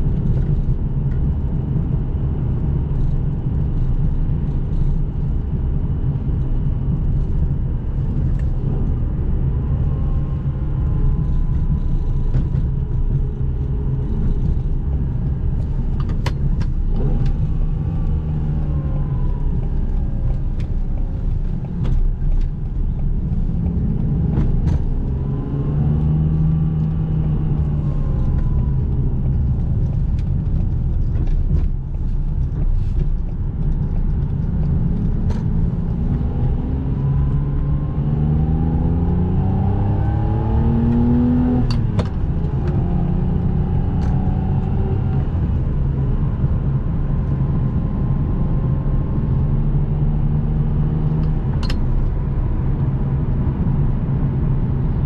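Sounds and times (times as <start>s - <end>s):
engine accelerating from inside car: 0.0s - 55.0s
road noise: 0.0s - 55.0s.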